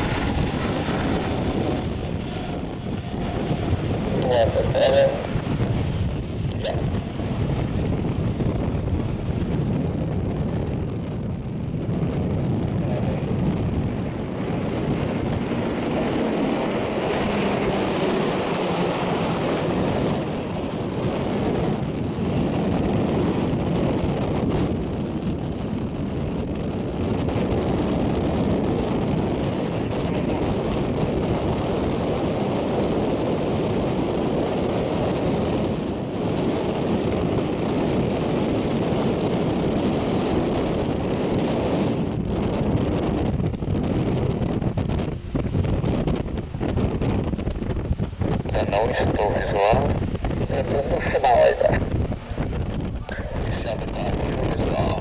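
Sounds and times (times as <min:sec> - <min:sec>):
turboprop aircraft engine: 0:00.0 - 0:55.0
wind on microphone: 0:00.0 - 0:55.0.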